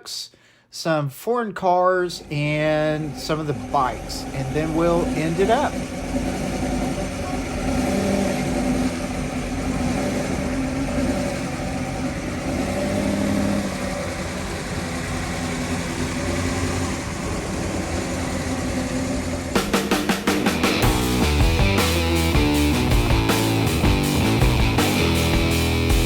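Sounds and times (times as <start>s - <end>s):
car engine idling: 2.0s - 26.0s.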